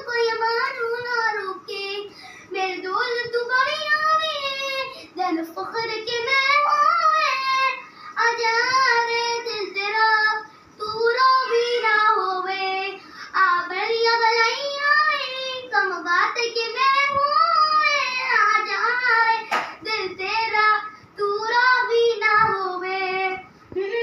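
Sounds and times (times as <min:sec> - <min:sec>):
girl singing unaccompanied: 0:00.0 - 0:24.0.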